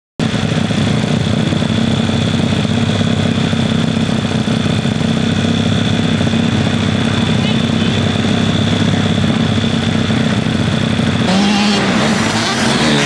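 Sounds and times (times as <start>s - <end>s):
motorbike engine idling: 0.2s - 13.0s.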